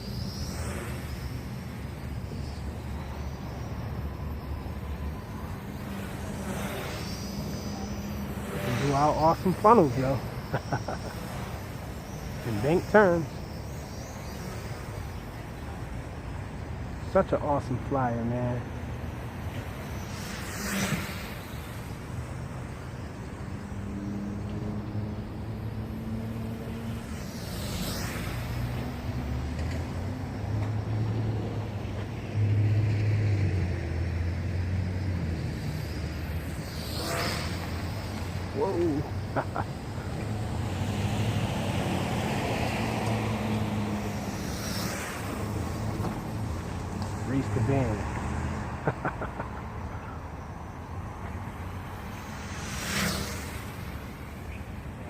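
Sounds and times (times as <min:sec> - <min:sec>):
outdoor noise: 0:00.0 - 0:55.0
quadcopter motors whining: 0:00.0 - 0:55.0
vehicle passing: 0:00.0 - 0:55.0.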